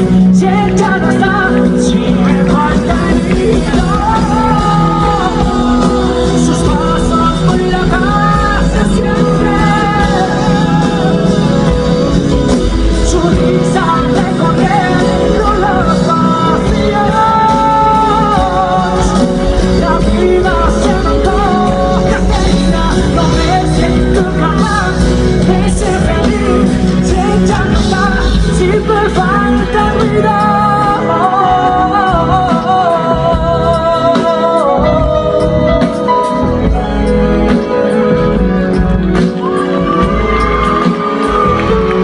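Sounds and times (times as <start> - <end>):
live pop-rock band: 0.0 - 42.0
person singing: 0.0 - 42.0.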